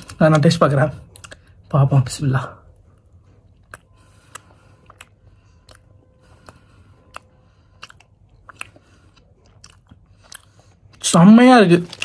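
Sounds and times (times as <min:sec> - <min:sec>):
person chewing food: 0:01.0 - 0:01.7, 0:02.6 - 0:12.0.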